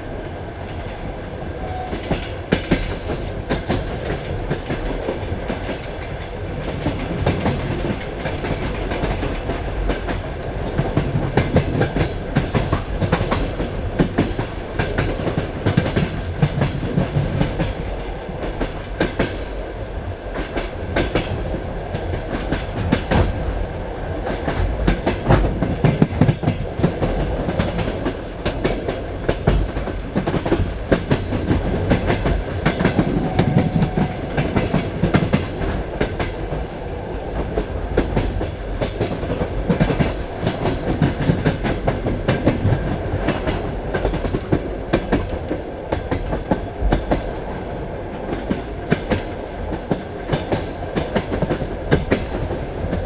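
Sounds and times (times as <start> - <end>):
train carriage rumble: 0.0 - 53.0.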